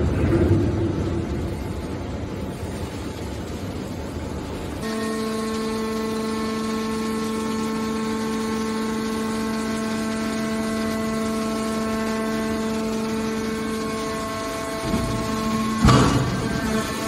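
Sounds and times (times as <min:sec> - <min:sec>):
hydraulic pump humming: 0:00.0 - 0:17.0.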